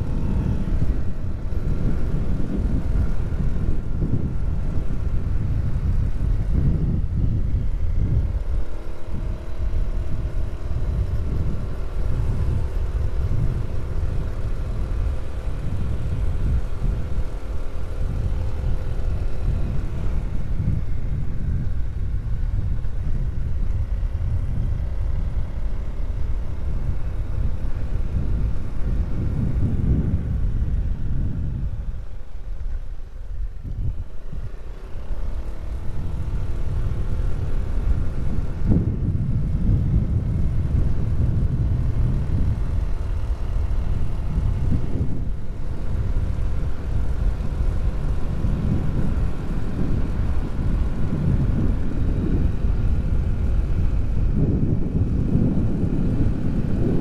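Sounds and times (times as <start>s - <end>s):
faint droning hum: 0.0s - 57.0s
wind buffeting microphone: 0.0s - 57.0s.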